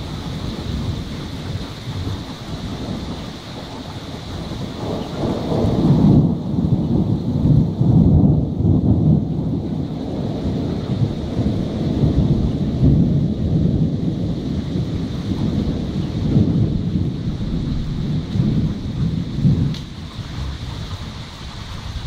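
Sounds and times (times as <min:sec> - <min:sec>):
rain hissing: 0:00.0 - 0:22.0
rolling thunder rumble: 0:00.0 - 0:22.0.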